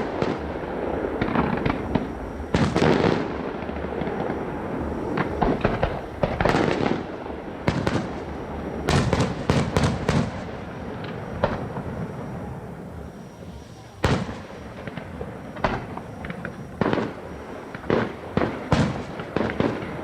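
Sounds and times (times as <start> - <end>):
fireworks bursting: 0.0 - 20.0
lingering fireworks rumble: 0.0 - 20.0.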